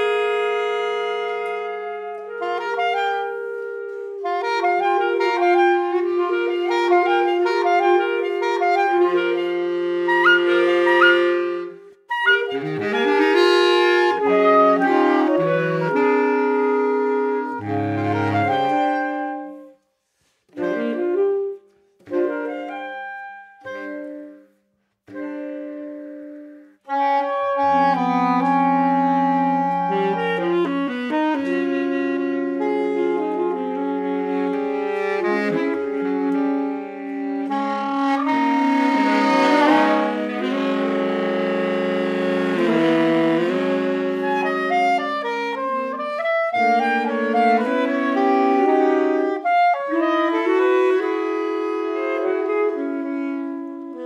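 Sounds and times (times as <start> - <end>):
saxophone quartet playing: 0.0 - 54.0.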